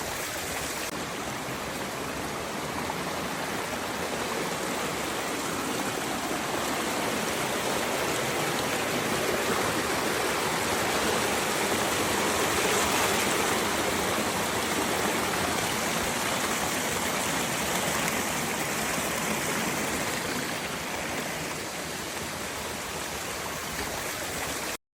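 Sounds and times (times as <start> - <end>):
waterfall rushing: 0.0 - 24.8.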